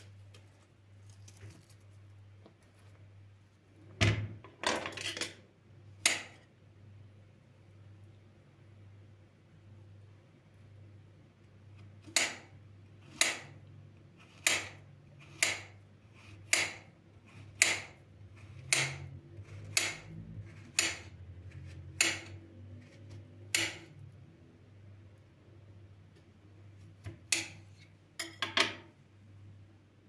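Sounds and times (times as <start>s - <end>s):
faint steady hum: 5.4s - 30.0s.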